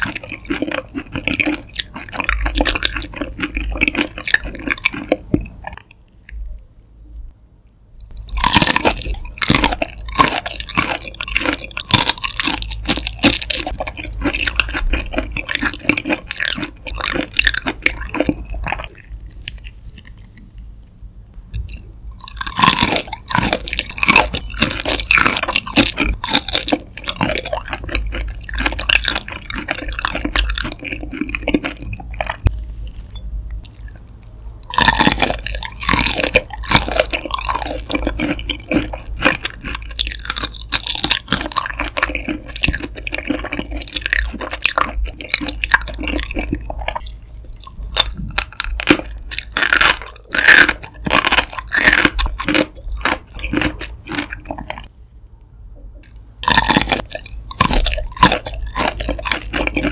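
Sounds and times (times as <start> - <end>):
chewing shrimp: 0.0 - 7.0, 8.0 - 20.7, 21.5 - 59.9.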